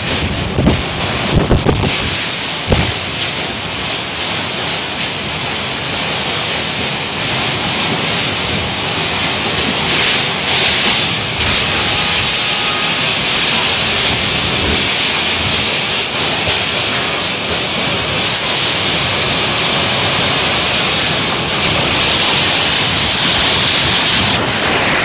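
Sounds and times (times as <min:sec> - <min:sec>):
strong storm wind rushing: 0:00.0 - 0:25.0.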